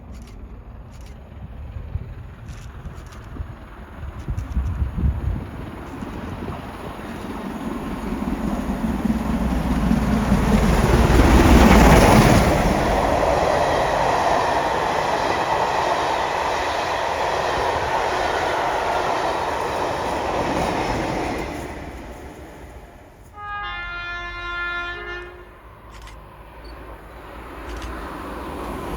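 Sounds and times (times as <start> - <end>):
train passing: 0.0 - 28.9
train wheels on rails: 0.0 - 28.9.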